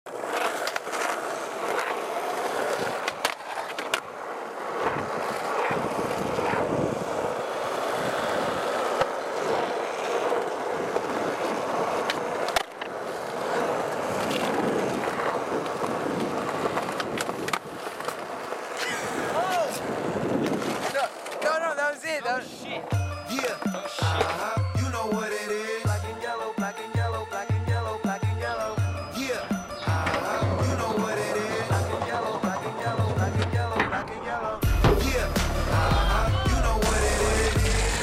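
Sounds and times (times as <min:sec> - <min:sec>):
skateboard wheels rolling on concrete: 0:00.0 - 0:38.0
skateboard clacks: 0:00.1 - 0:22.0, 0:22.8 - 0:25.4, 0:28.1 - 0:35.8.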